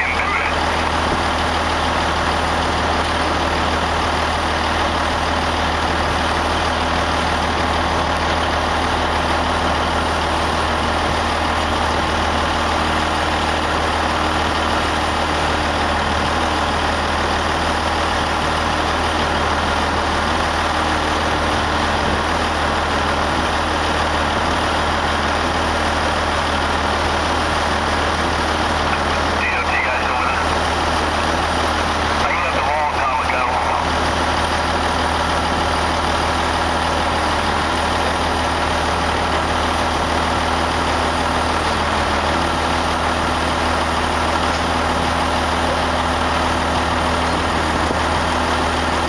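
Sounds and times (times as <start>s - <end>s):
truck diesel engine drone: 0.0s - 49.0s.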